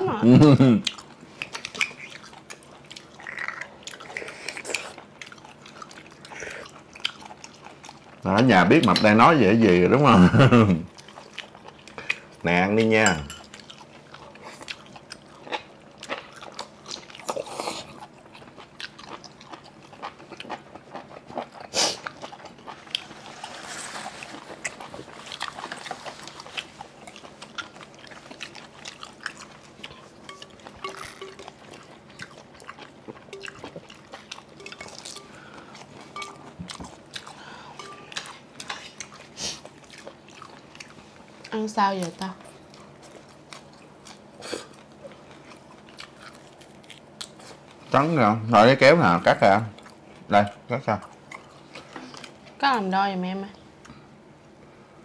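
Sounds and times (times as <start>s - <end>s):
biting and chewing food: 0.9s - 8.9s, 10.9s - 48.0s.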